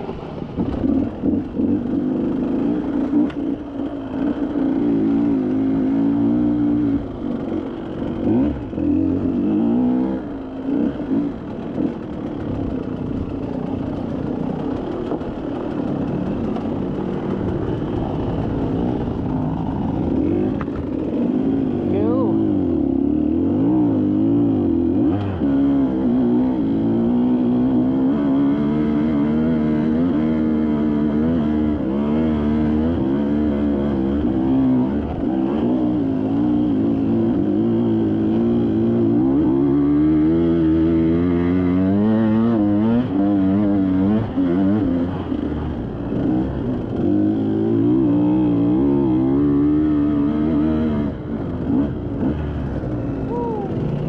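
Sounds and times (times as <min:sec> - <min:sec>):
dirt bike engine revving: 0:00.8 - 0:13.5, 0:14.1 - 0:54.0.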